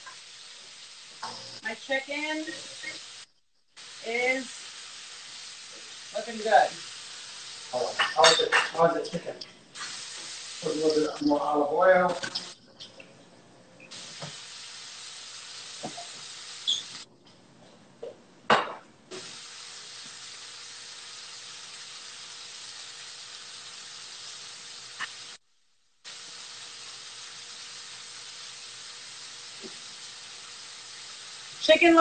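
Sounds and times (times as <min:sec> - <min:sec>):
chicken sizzling in a frying pan: 0:00.0 - 0:12.6, 0:13.9 - 0:17.1, 0:18.5 - 0:25.4, 0:26.0 - 0:32.0.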